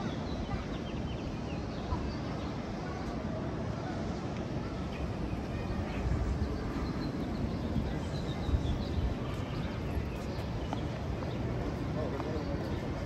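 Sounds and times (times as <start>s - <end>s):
indistinct voices of passers-by: 0.0s - 13.0s.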